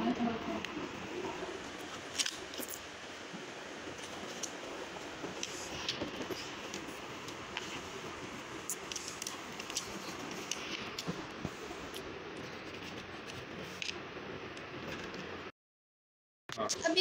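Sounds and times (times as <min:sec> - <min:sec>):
steady background hiss: 0:00.0 - 0:15.5.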